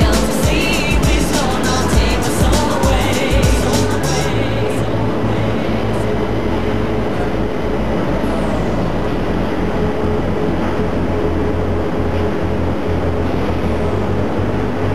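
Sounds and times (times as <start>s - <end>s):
faint steady whine: 0.0s - 14.9s.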